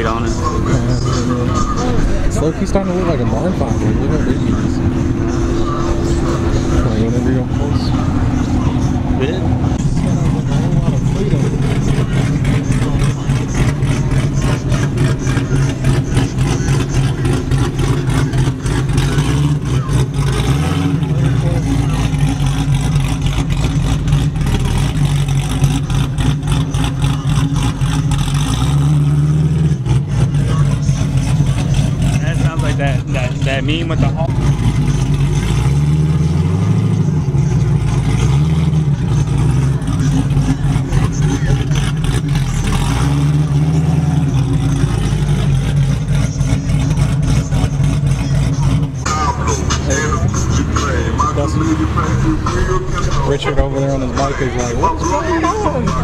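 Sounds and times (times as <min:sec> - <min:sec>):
car engine idling and rumbling: 0:00.0 - 0:56.0.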